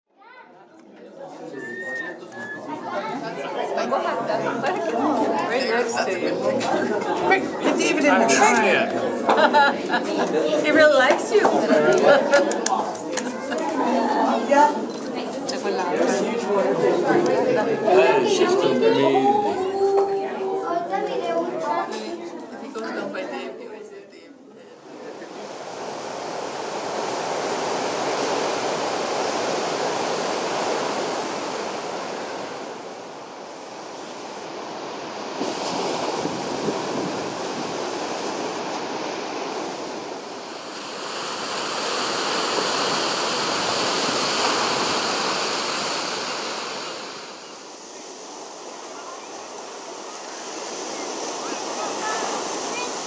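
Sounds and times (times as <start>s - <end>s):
ocean surf breaking: 1.1s - 23.8s, 24.7s - 53.0s.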